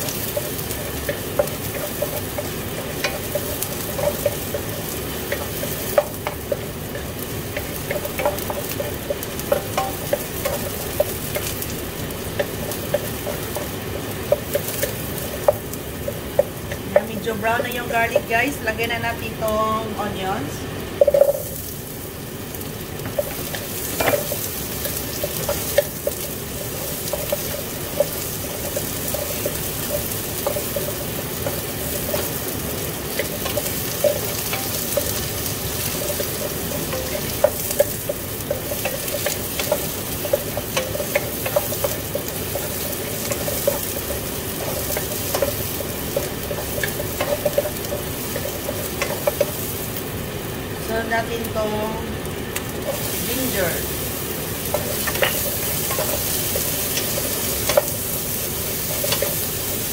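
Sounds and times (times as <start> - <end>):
onion sizzling in oil: 0.0 - 59.9.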